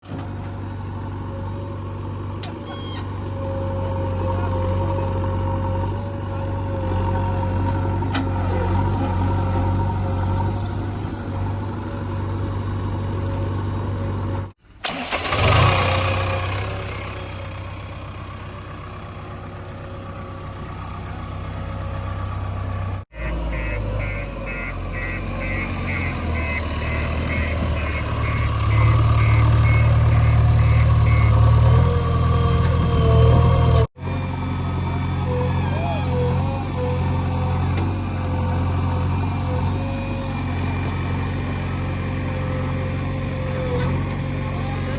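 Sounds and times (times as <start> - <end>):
diesel engine droning: 0.0 - 44.9.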